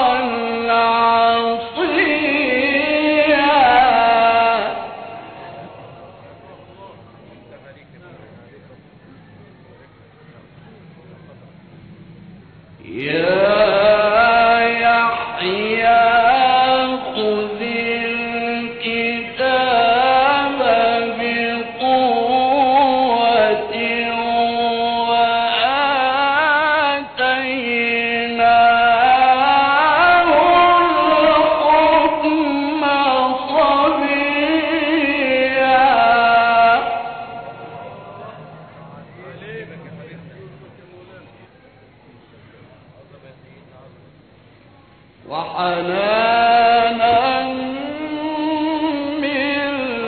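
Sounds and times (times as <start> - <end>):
man chanting melodically: 0.0 - 7.8, 12.8 - 41.5, 45.2 - 50.0.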